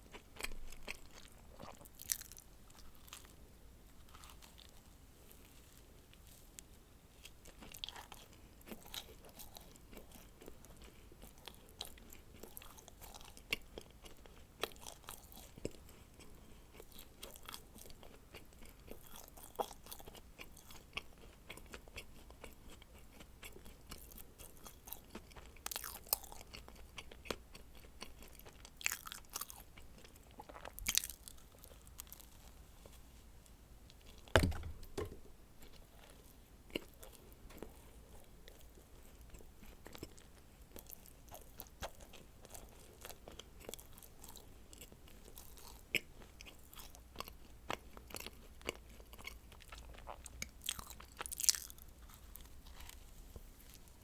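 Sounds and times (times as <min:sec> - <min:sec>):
chewing crisp pastry: 0:00.0 - 0:34.3, 0:35.6 - 0:54.0.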